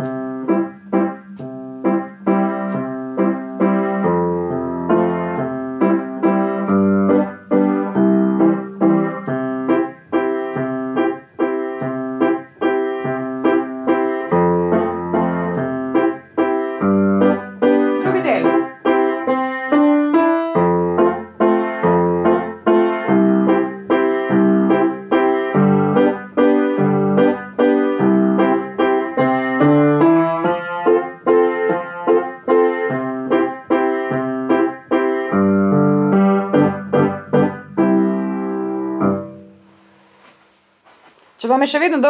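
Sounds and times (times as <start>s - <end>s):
piano accompaniment: 0.0s - 42.0s.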